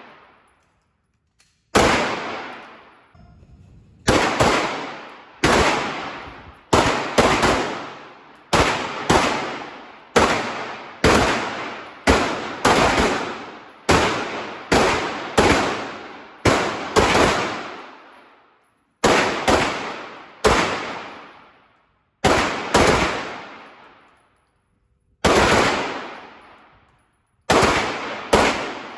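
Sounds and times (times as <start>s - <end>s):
pistol shots with echo: 1.6s - 3.1s, 4.0s - 18.2s, 19.0s - 21.6s, 22.2s - 24.2s, 25.2s - 28.9s.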